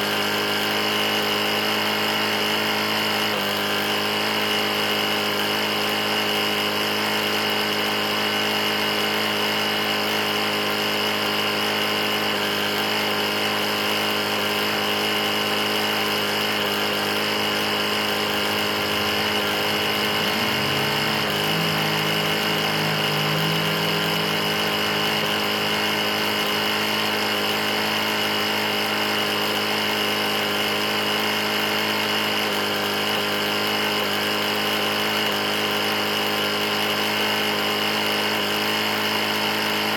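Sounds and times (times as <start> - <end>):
lawn mower engine knocking: 0.0 - 39.9.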